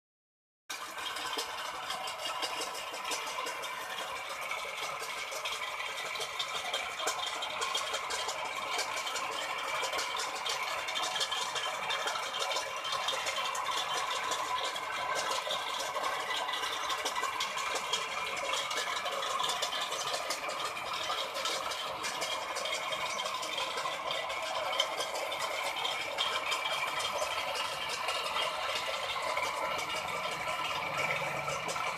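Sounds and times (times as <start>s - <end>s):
machine rattling with fast clicks: 0.7s - 31.9s.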